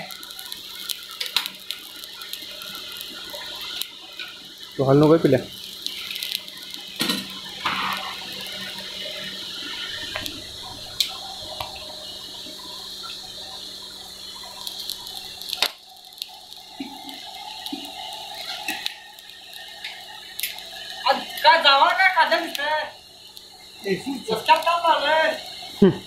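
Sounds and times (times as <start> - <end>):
forge fire rushing hiss: 0.0 - 26.0.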